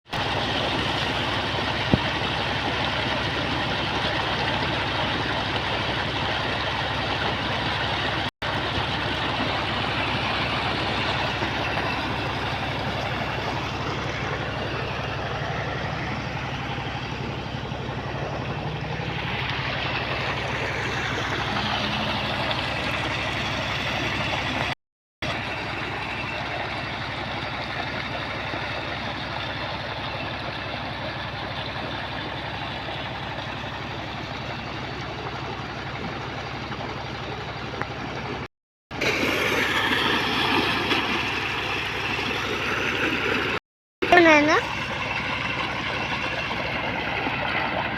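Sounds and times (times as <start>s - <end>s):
heavy digging machine engine running: 0.1s - 47.9s.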